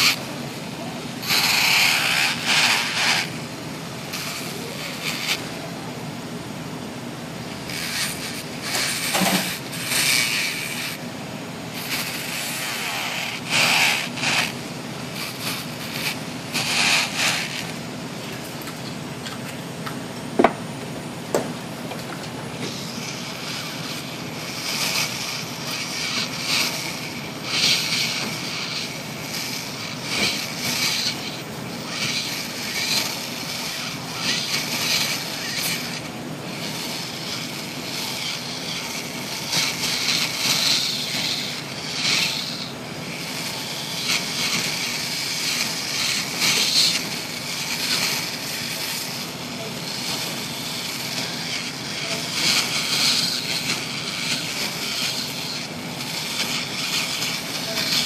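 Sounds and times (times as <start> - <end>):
nail file rasping on nails: 0.0 - 0.2, 1.2 - 3.4, 4.1 - 5.5, 7.6 - 11.1, 11.7 - 17.8, 22.6 - 58.0
steady background hum: 0.0 - 58.0.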